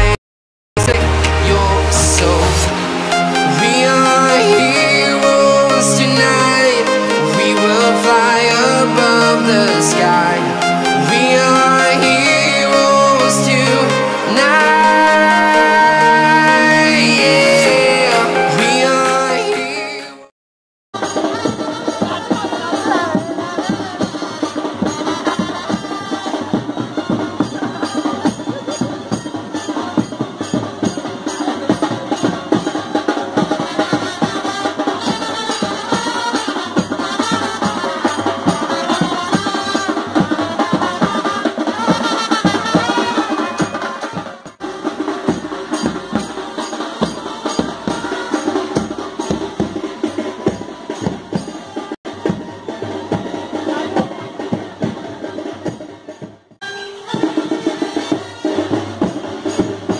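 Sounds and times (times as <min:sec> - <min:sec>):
brass band playing: 0:00.8 - 0:20.1, 0:21.0 - 0:28.2, 0:31.6 - 0:55.5, 0:56.6 - 0:59.9.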